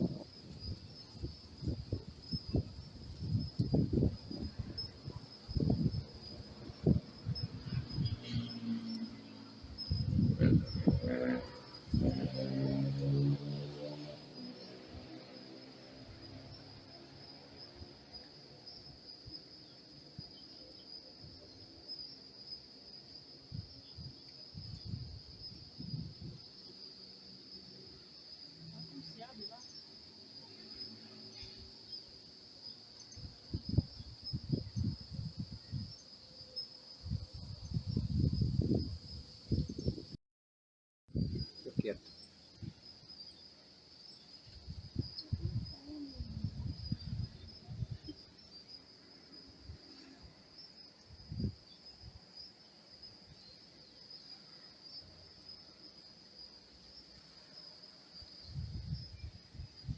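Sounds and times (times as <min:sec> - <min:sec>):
insects chirring: 0:00.0 - 0:40.2, 0:41.2 - 0:59.9.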